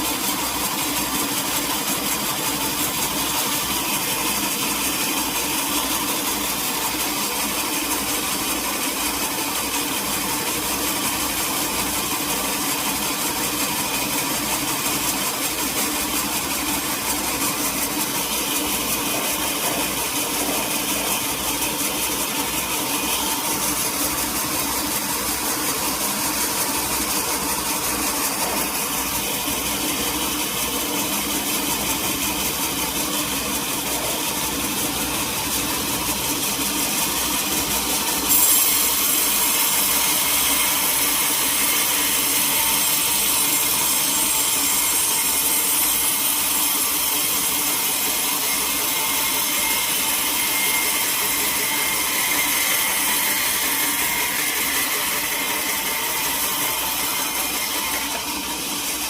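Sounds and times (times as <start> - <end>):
saw cutting log with harsh hiss: 0.0 - 59.0
sawmill saw running: 0.0 - 59.0.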